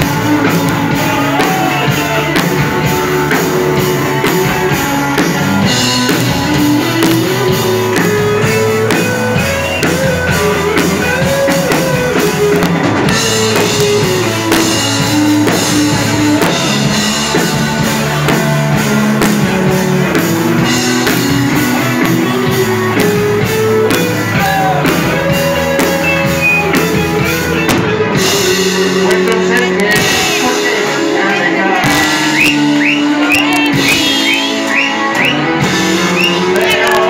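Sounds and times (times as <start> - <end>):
drum kit: 0.0 - 37.0
electric guitars: 0.0 - 37.0.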